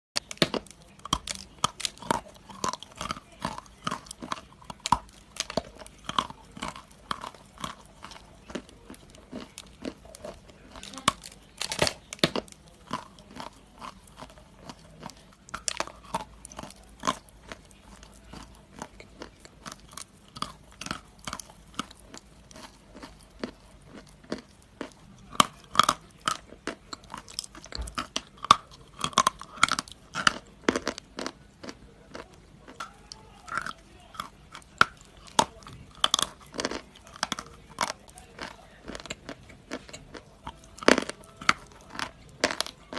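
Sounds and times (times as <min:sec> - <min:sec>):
chewing crunchy food: 0:00.2 - 0:42.9.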